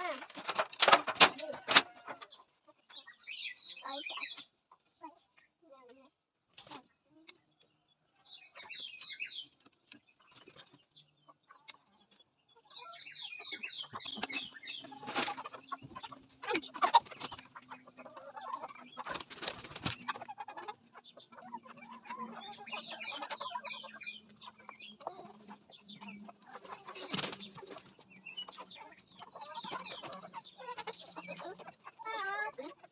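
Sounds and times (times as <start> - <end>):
chickens clucking: 0.0 - 32.9
chicks cheeping: 0.0 - 32.9.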